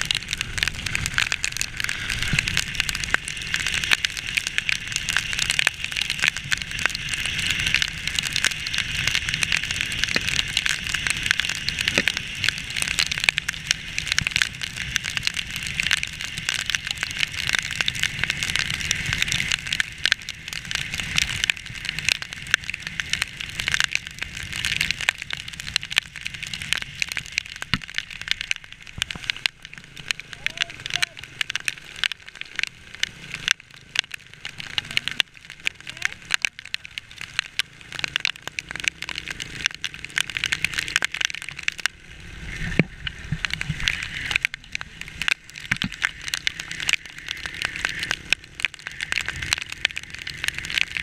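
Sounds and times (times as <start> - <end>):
low rumble: 0.0 - 51.0
rain and tyre spray hiss: 0.0 - 51.0
rain ticking on camera: 0.0 - 51.0.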